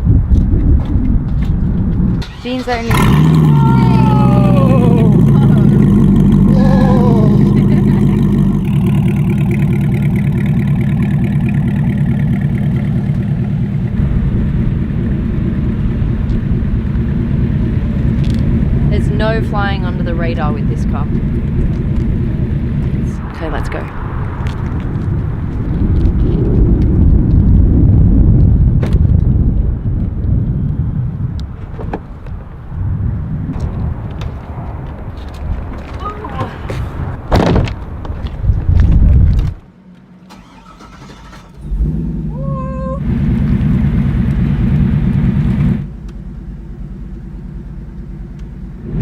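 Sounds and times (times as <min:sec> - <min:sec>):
car engine driving off: 0:01.3 - 0:49.0.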